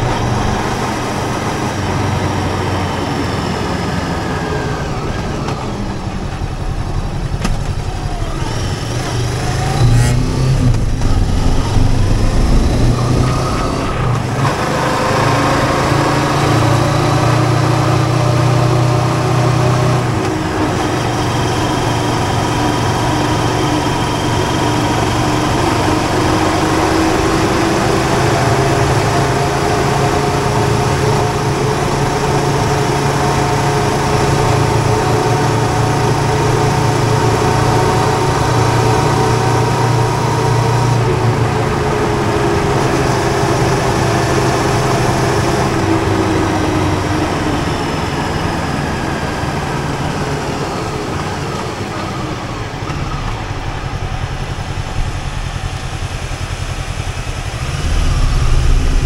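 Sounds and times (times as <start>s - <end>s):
motorcycle engine running: 0.0s - 40.4s, 41.0s - 59.0s
wind and road rush: 0.0s - 59.0s.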